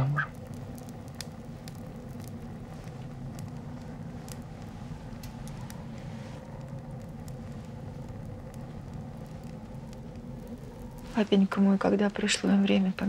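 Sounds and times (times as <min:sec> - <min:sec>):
low rumbling ambience: 0:00.0 - 0:13.0.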